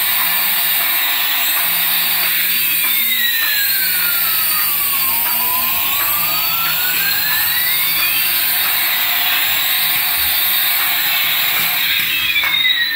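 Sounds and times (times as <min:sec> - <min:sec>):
toy helicopter motors whining: 0:00.0 - 0:12.9.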